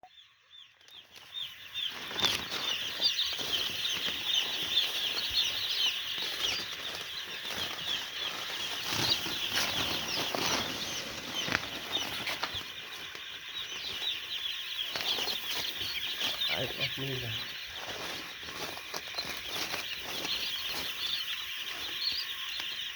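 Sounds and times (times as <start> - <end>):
chicks peeping: 0.0 - 22.9.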